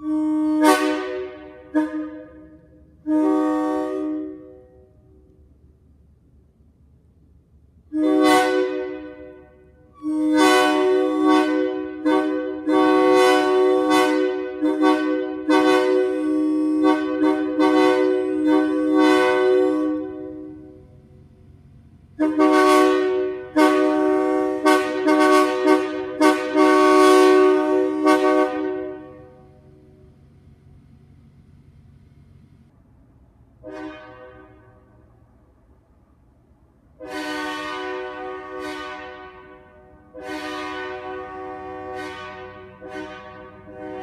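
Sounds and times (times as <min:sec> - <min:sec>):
locomotive air horn blasts: 0:00.0 - 0:05.4, 0:07.8 - 0:32.8, 0:33.6 - 0:35.3, 0:36.9 - 0:44.0.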